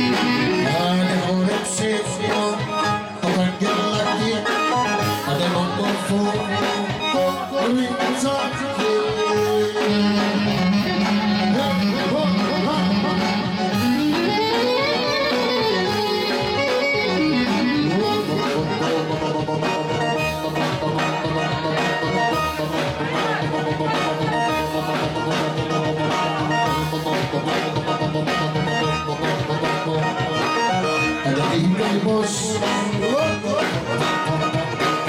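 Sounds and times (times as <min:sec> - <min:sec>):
clarinet melody: 0:00.0 - 0:05.8, 0:06.4 - 0:35.0
drums: 0:00.0 - 0:35.0
keyboard: 0:00.0 - 0:35.0.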